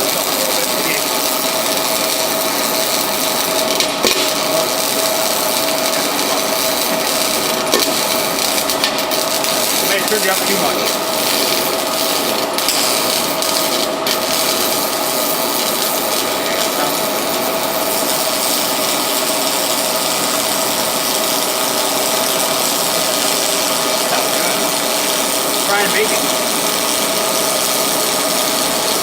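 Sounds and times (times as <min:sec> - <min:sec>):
constant hum: 0:00.0 - 0:29.0
welding arc crackling hiss: 0:00.0 - 0:29.0.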